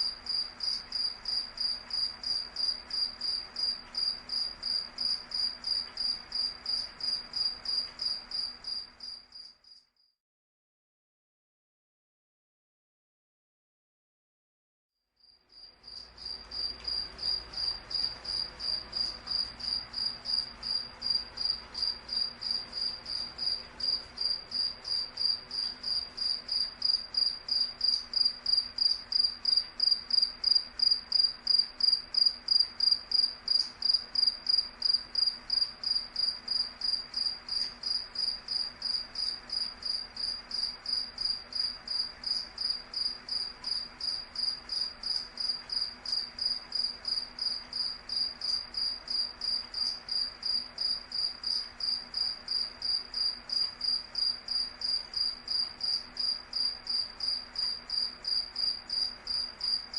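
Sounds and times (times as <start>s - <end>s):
cricket chirping: 0.0s - 10.1s, 15.2s - 59.9s.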